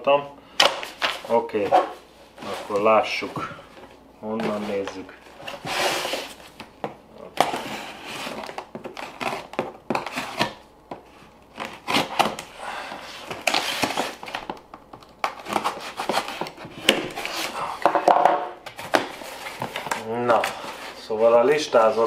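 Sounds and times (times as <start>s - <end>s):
cardboard rustling and scraping: 0.8s - 14.5s, 15.3s - 22.0s.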